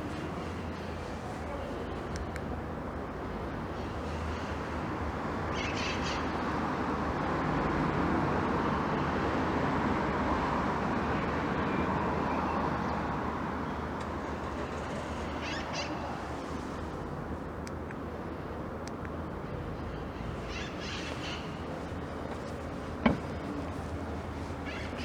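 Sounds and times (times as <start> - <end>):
street hum: 0.0 - 25.0.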